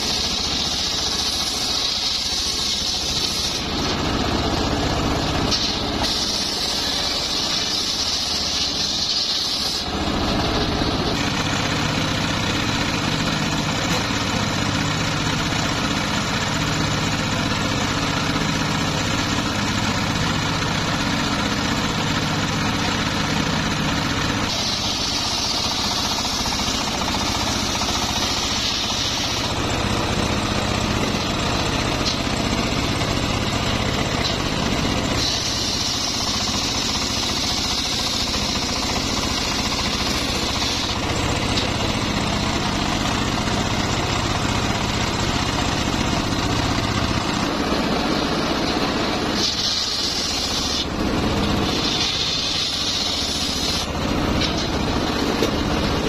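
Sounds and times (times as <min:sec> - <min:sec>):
saw blade cutting log whine: 0:00.0 - 0:56.0
saw engine running: 0:00.0 - 0:56.0.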